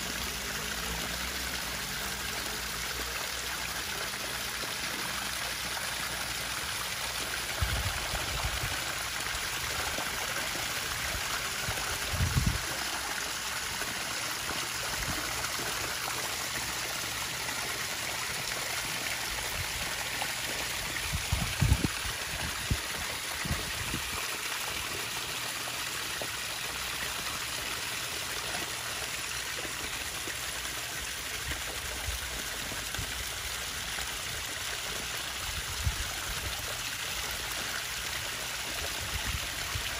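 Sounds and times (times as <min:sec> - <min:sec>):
water trickling into pond: 0:00.0 - 0:39.9.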